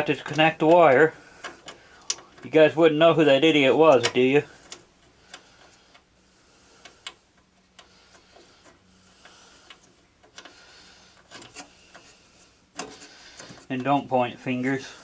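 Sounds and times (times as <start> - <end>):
light clicks of metal parts: 0.0 - 6.1, 6.8 - 15.0.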